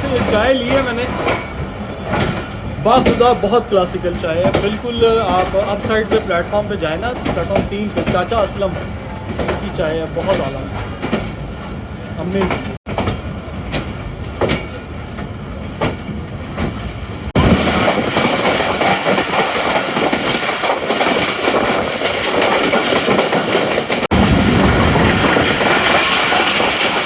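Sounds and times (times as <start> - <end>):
train rumble and rushing: 0.0 - 27.0
train wheels clicking over rail joints: 0.0 - 27.0.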